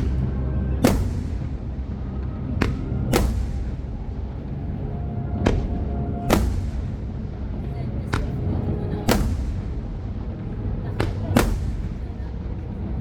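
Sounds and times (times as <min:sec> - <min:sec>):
fireworks bangs: 0:00.0 - 0:04.8, 0:05.4 - 0:12.6
steady low rumble: 0:00.0 - 0:13.0.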